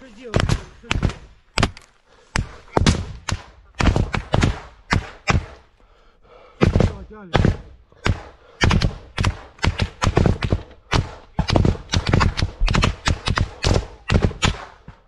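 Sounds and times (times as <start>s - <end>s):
rapid rifle shots: 0.2s - 5.6s, 6.6s - 14.9s.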